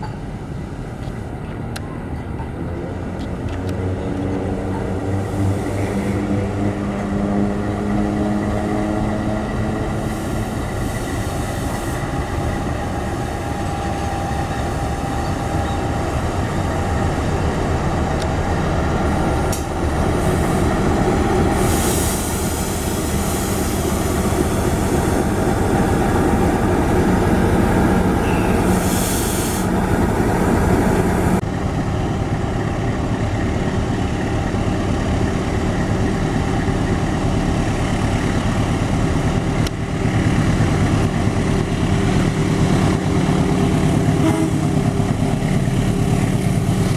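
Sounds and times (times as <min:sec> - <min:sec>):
locomotive engine droning: 0:00.0 - 0:46.9
train wheels rumbling on rails: 0:00.0 - 0:46.9.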